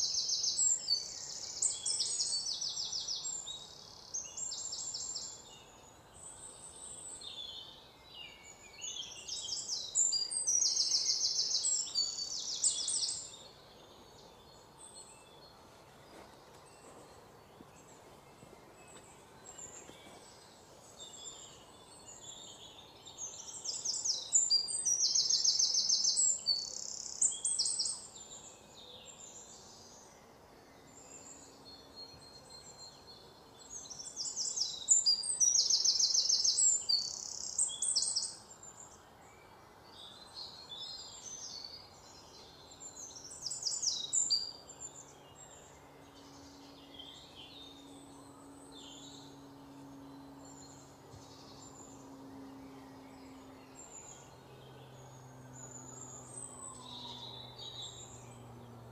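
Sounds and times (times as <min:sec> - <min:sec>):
faint background hiss: 0:00.0 - 0:58.9.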